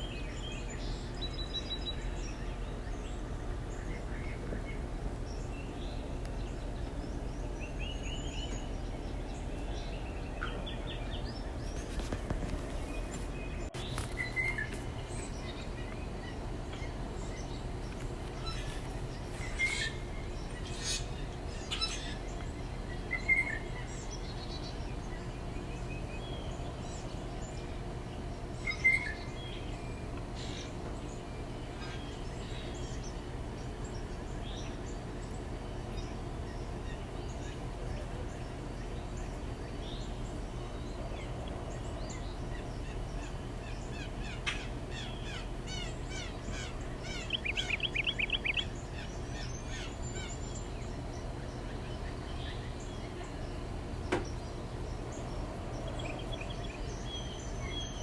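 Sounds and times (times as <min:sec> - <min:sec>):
low background hum: 0:00.0 - 0:58.0
small birds chirping: 0:00.0 - 0:58.0.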